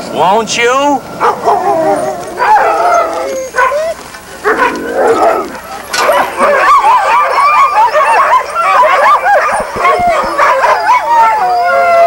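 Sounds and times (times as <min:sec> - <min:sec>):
sled dogs yipping and whining: 0:01.0 - 0:12.0.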